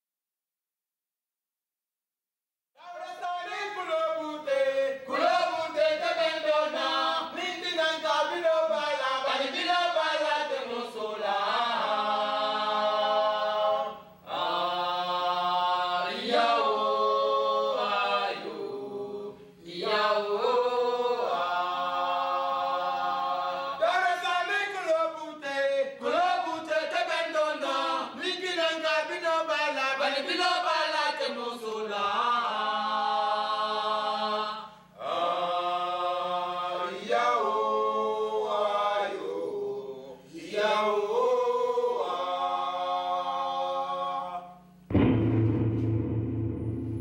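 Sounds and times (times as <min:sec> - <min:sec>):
a cappella chant: 0:02.8 - 0:44.9.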